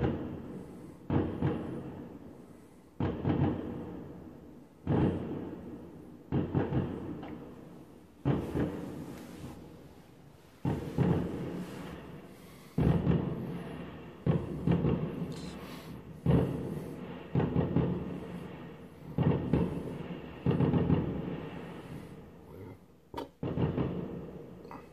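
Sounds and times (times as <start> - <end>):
fireworks bangs with rolling echo: 0.0 - 22.5, 23.3 - 24.9.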